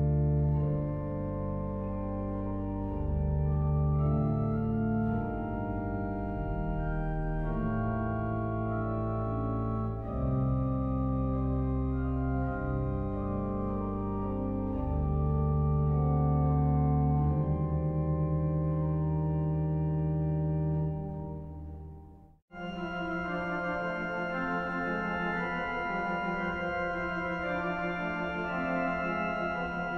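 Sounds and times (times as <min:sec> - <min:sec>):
pipe organ playing slow chords: 0:00.0 - 0:29.9.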